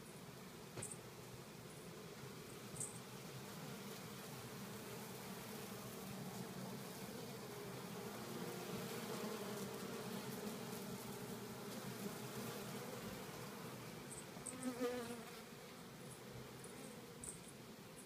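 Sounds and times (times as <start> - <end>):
honeybees buzzing: 0.3 - 17.8.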